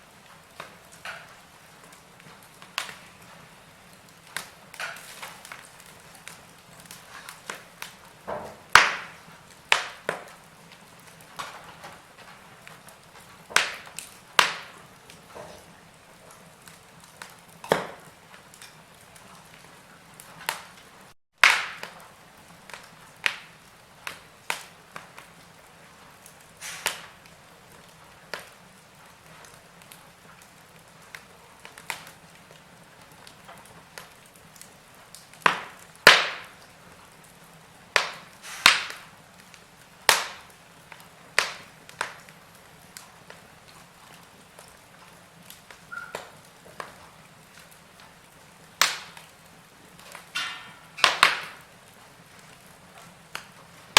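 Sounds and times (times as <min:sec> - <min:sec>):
soft steady hiss: 0:00.0 - 0:53.9
wood fire crackling and popping: 0:00.0 - 0:53.9.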